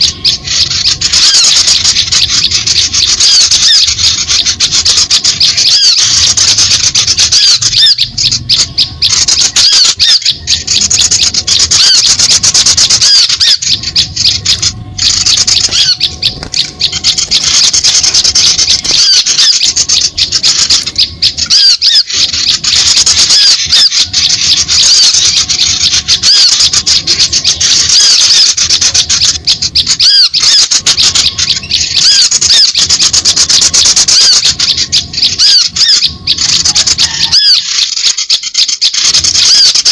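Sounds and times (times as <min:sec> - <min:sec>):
high bird chirps chorus: 0:00.0 - 0:39.9.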